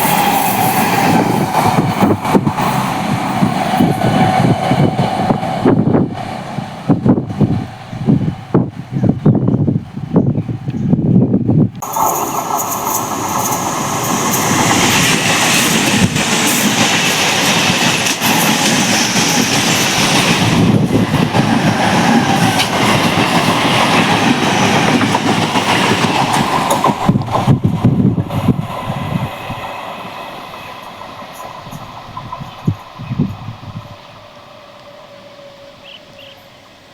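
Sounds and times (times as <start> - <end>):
train wheels clattering over rails: 0.0 - 8.7, 11.8 - 33.2.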